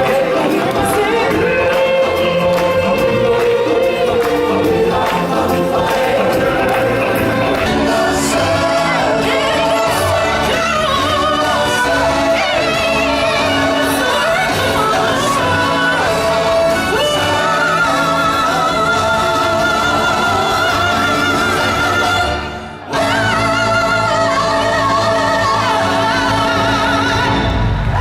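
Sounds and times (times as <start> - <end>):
choir-like group singing: 0.0 - 28.0.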